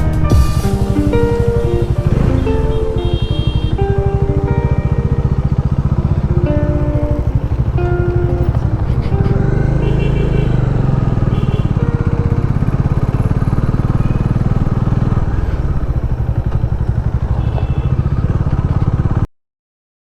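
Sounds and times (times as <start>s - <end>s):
motorcycle engine running: 0.0s - 19.3s.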